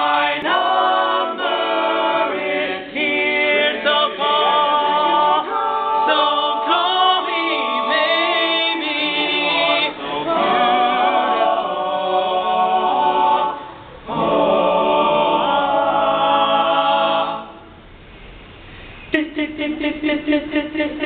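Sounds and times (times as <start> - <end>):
male a cappella group singing: 0.0 - 17.7, 19.1 - 21.0.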